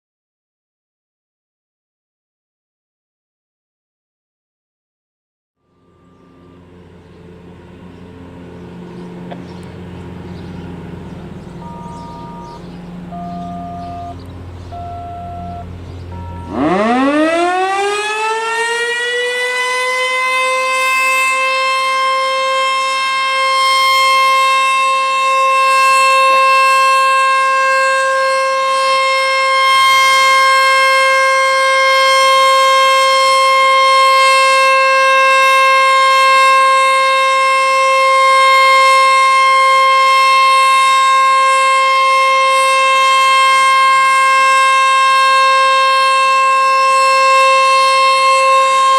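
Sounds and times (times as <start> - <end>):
warning siren rising to steady tone: 5.6 - 48.9.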